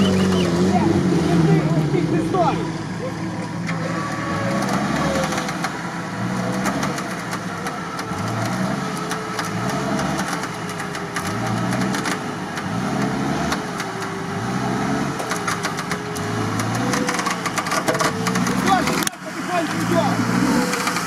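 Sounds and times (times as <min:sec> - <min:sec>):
vehicle engine throbbing: 0:00.0 - 0:21.0.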